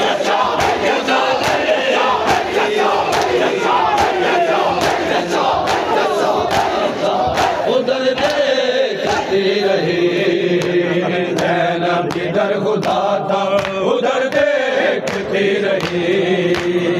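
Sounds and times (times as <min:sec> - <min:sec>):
crowd of men chanting: 0:00.0 - 0:16.9
hands slapping chests: 0:00.2 - 0:07.6, 0:10.5 - 0:16.8.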